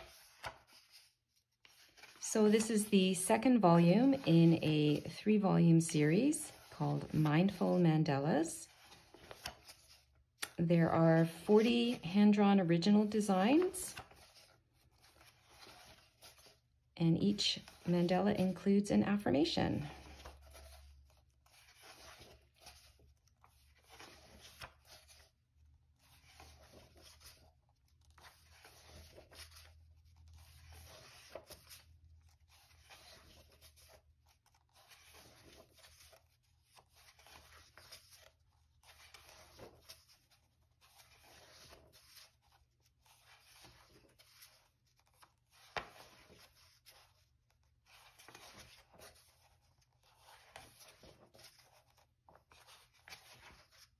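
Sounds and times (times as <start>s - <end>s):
paper pages turning: 0.0s - 7.8s, 8.4s - 10.6s, 11.3s - 16.7s, 17.3s - 18.6s, 19.4s - 53.9s.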